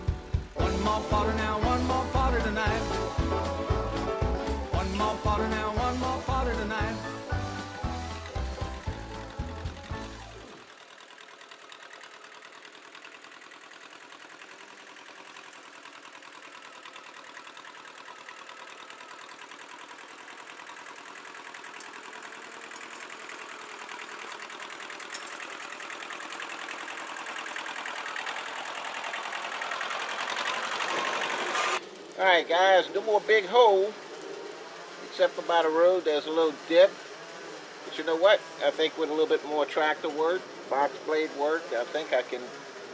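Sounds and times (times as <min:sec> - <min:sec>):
tractor engine chugging: 0:00.0 - 0:42.9.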